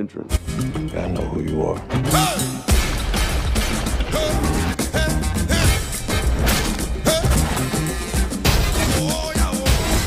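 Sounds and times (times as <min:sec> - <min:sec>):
soundtrack music with heavy bass: 0:01.8 - 0:10.0.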